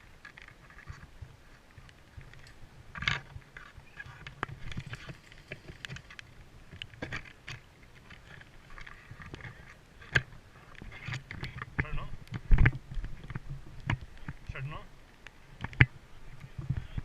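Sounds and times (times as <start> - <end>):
close rustling: 0.0 - 17.0.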